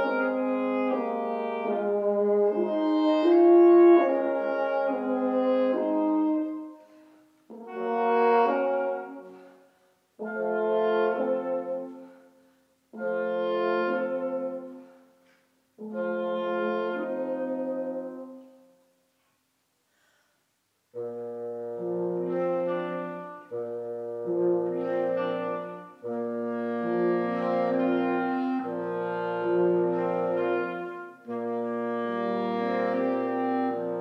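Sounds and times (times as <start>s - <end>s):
brass ensemble chords: 0.0s - 19.1s, 20.9s - 34.0s.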